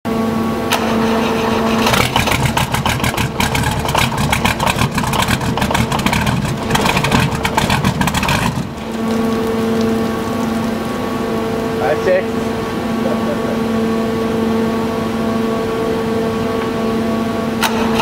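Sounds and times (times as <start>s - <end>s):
diesel engine running roughly: 0.1s - 18.0s.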